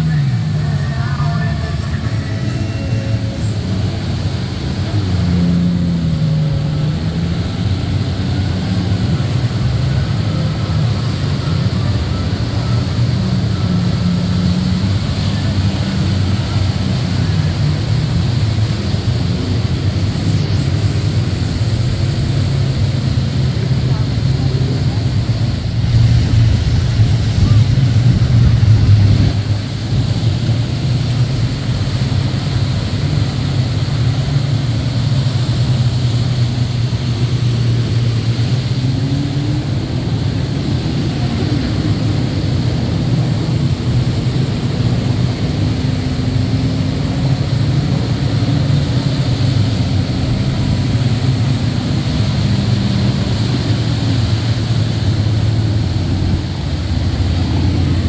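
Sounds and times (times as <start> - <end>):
jet ski engines droning: 0.0 - 58.0
jet skis passing by: 0.0 - 58.0.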